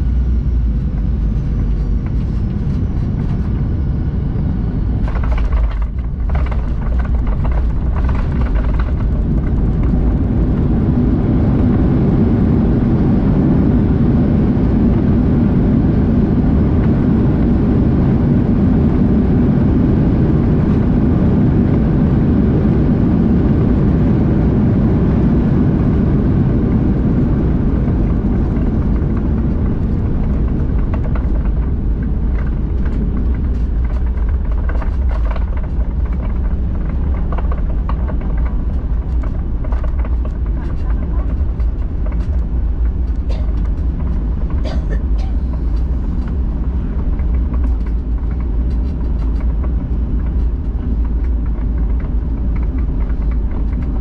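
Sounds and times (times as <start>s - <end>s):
aircraft engine rumble in cabin: 0.0s - 54.0s.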